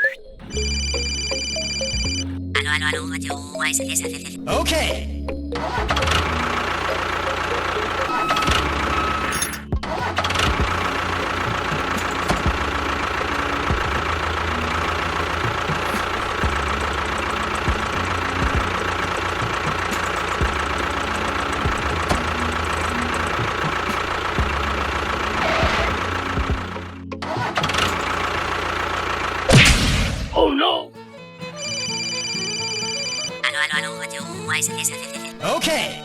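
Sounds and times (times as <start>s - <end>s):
background music: 0.0s - 36.0s.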